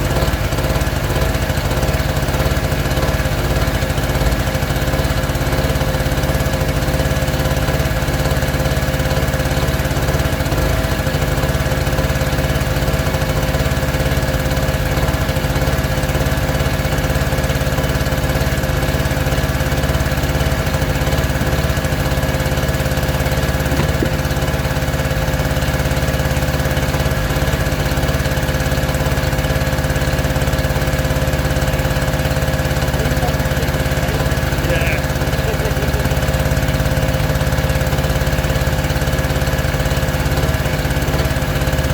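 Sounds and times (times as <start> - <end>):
small engine droning: 0.0 - 41.9.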